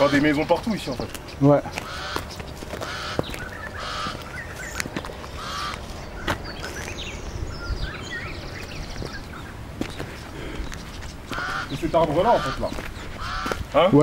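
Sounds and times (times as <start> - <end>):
crows cawing: 0.0 - 6.8, 9.0 - 14.0
birds chirping: 0.0 - 14.0
footsteps on gravel: 0.0 - 14.0.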